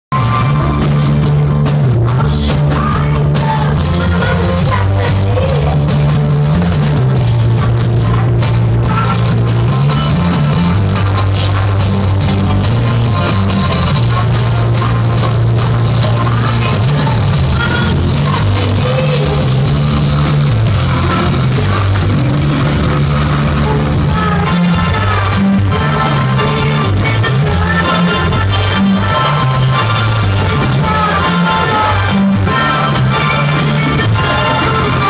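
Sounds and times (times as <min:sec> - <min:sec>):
live rock band playing: 0:00.1 - 0:35.0.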